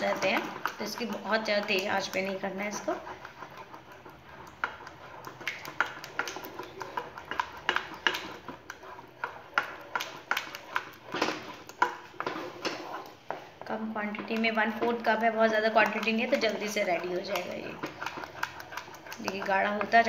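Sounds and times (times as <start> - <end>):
wooden spatula scraping saucepan: 0.0 - 20.0.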